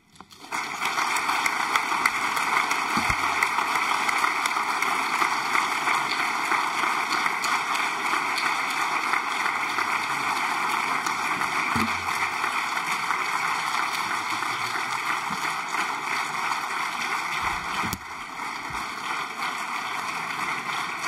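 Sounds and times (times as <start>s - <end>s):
audience applauding: 0.2s - 21.0s.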